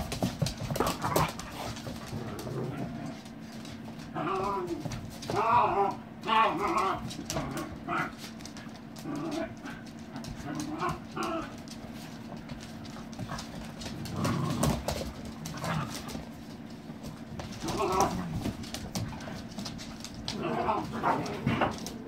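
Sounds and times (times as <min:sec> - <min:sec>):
claws clicking on wooden floor: 0:00.0 - 0:06.0, 0:06.6 - 0:22.0
dogs scuffling: 0:00.0 - 0:22.0.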